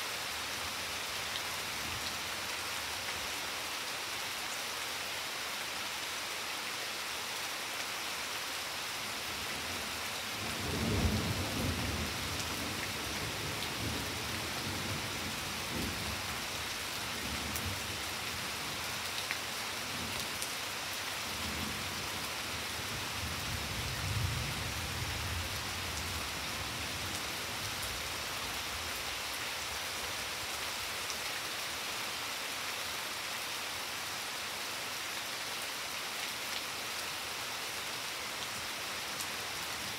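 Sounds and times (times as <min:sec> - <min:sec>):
rain falling on patio: 0:00.0 - 0:39.9.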